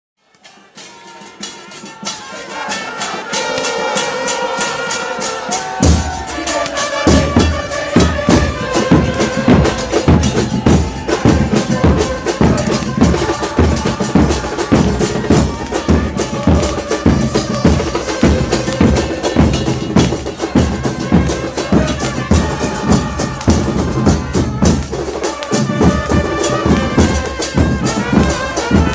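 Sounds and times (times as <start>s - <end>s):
crowd of supporters singing: 0.2s - 28.9s
bass drums beating: 5.4s - 28.9s.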